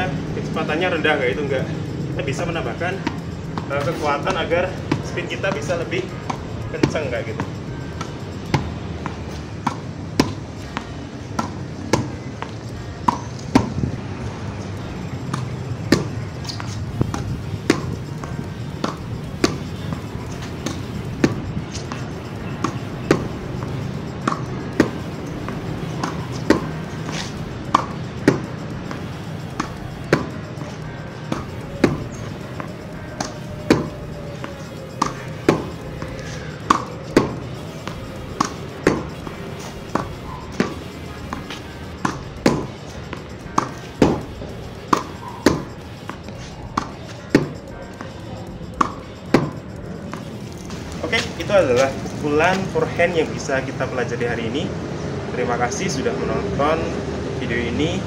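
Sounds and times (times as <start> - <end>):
background music: 0.0 - 58.0
tennis ball bouncing: 0.5 - 53.5
racket hitting tennis ball: 3.0 - 13.9, 14.7 - 52.6.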